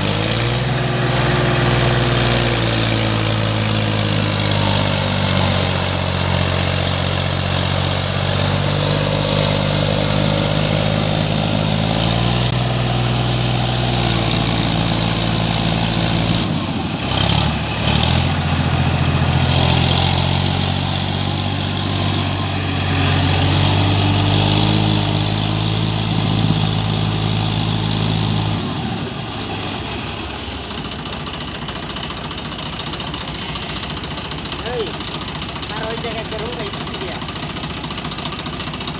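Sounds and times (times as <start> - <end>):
tractor diesel engine working hard: 0.0 - 38.9.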